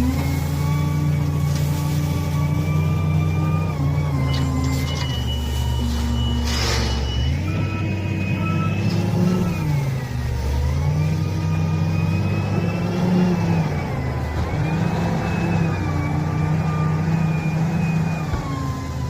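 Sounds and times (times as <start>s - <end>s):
high engine whine: 0.0s - 19.0s
wheel loader diesel engine revving: 0.0s - 19.0s.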